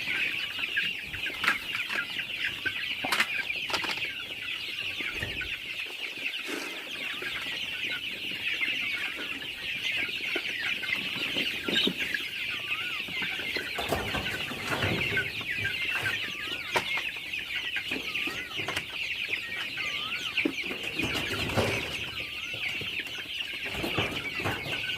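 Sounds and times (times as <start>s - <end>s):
chickens clucking: 0.0s - 24.9s.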